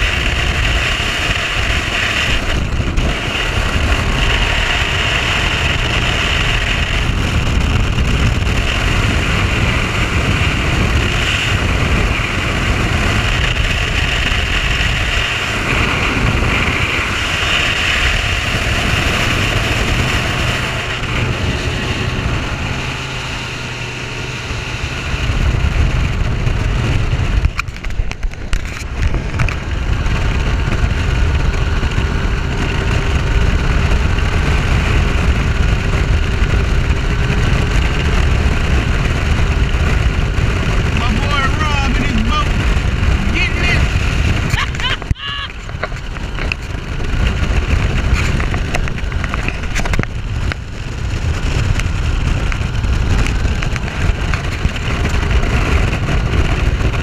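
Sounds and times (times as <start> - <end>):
outboard engine drone: 0.0 - 57.0
rush of wind and water: 0.0 - 57.0.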